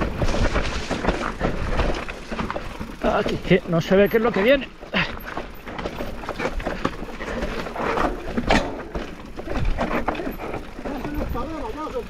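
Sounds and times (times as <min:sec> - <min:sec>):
tyres crunching over dirt and stones: 0:00.0 - 0:12.0.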